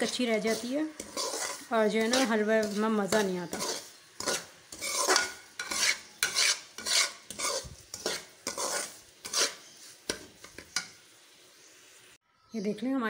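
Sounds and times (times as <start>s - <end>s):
metal spoon scraping metal pan: 0.0s - 11.0s.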